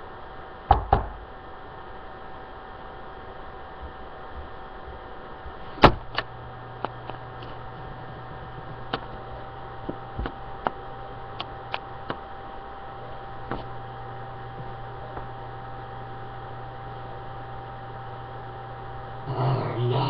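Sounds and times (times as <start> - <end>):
deeper hum: 0.0 - 20.0
electrical hum: 0.0 - 20.0.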